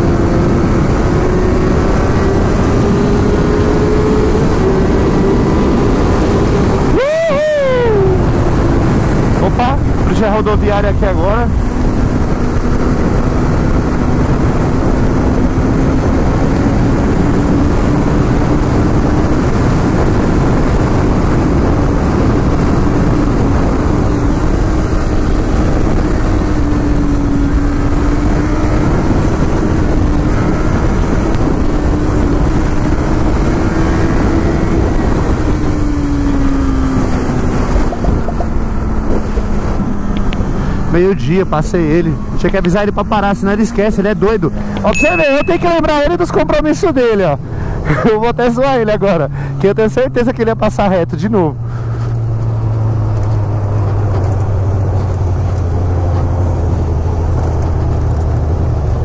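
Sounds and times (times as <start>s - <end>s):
motorcycle engine droning: 0.0s - 59.0s
wind rush on microphone: 0.0s - 59.0s.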